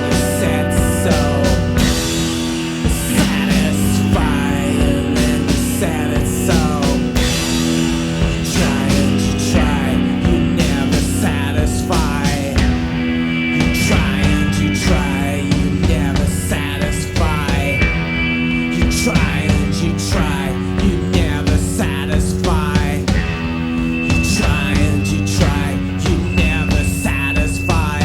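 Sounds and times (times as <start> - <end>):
indie rock song: 0.0 - 28.0.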